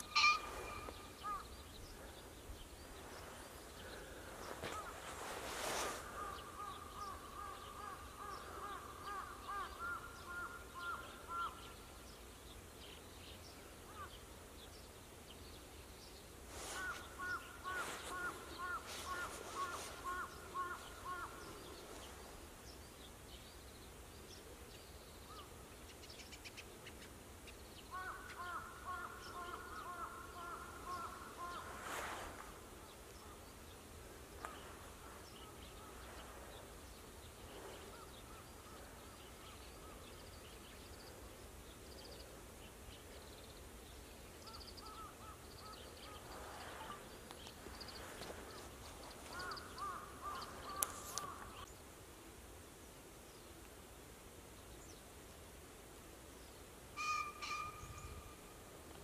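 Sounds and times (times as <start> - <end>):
birds calling: 0.0 - 12.2, 16.6 - 22.9, 23.5 - 41.2, 41.8 - 51.7, 57.0 - 58.4.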